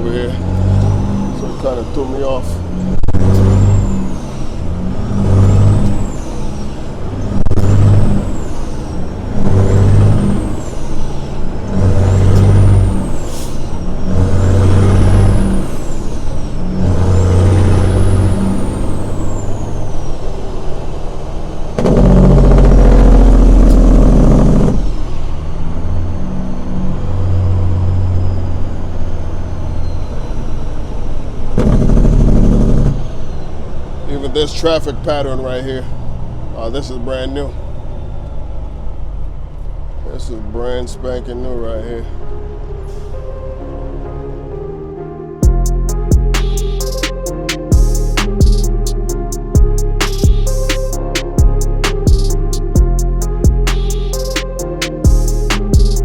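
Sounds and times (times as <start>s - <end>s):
truck diesel engine drone: 0.0s - 56.0s.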